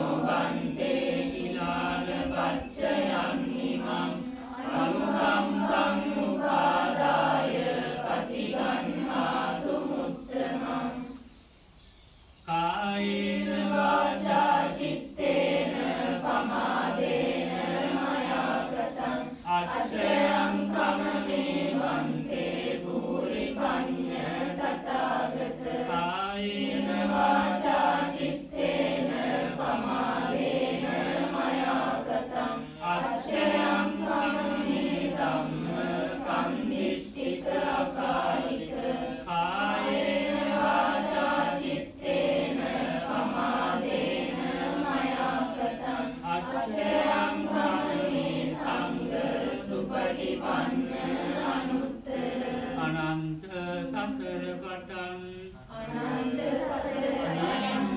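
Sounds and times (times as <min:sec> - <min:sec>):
group chanting in unison: 0:00.0 - 0:11.3, 0:12.5 - 0:57.9.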